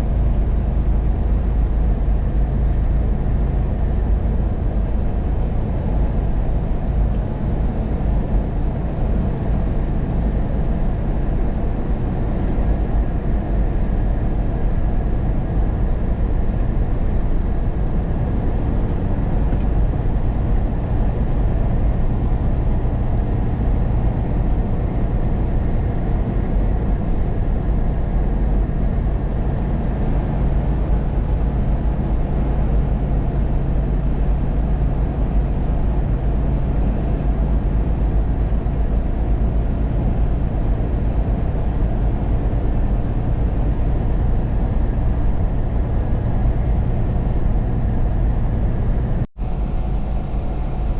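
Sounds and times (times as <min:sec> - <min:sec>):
truck engine and road noise: 0:00.0 - 0:50.9.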